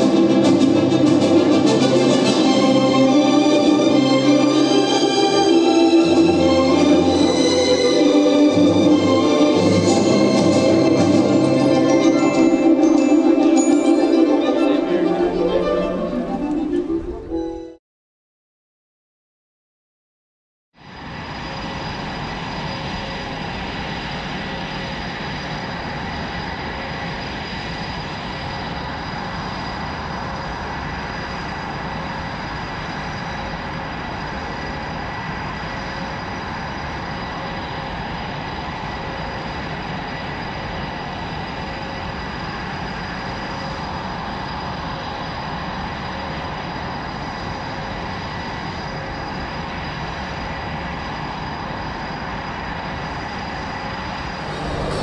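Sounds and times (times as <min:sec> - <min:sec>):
aircraft engine running: 0:00.0 - 0:17.4, 0:20.9 - 0:55.0.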